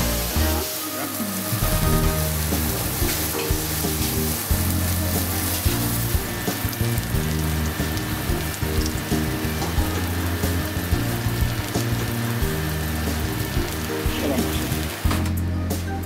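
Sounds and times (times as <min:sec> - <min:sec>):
vegetables sizzling in a pan: 0:00.0 - 0:15.4
background music: 0:00.0 - 0:16.0.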